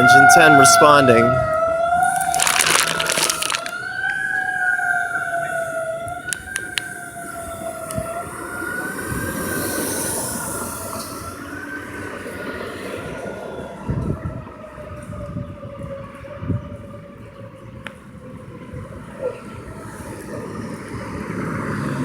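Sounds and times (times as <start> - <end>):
fire engine siren wailing: 0.0 - 22.0
rush of vehicle noise: 2.0 - 16.5, 18.0 - 22.0.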